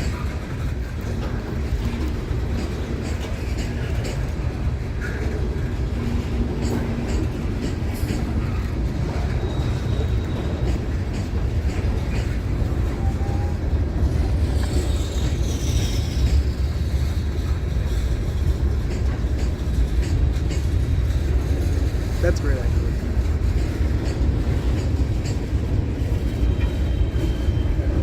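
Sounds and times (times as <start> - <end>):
train rumbling on rails: 0.0 - 28.0
wheels clicking on rails: 0.0 - 28.0.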